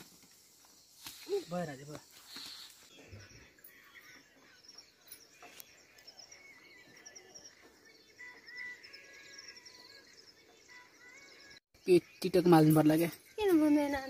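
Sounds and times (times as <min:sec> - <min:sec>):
faint birds chirping and trilling: 0:00.0 - 0:14.0.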